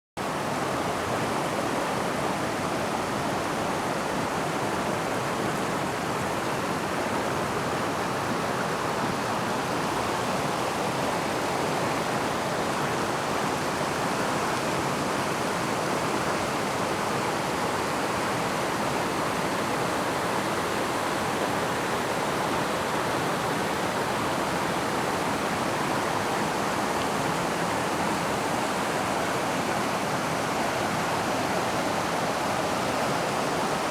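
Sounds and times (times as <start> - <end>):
river rushing: 0.2 - 33.9.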